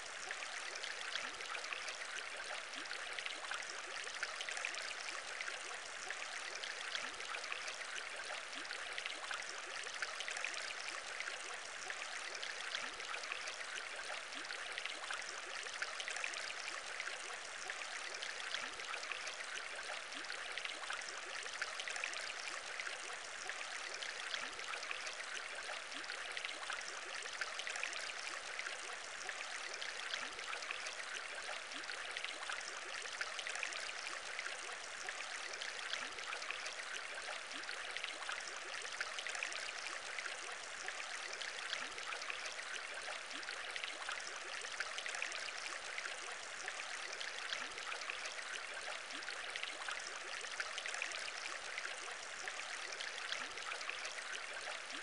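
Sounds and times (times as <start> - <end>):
trickling water: 0.0 - 55.0.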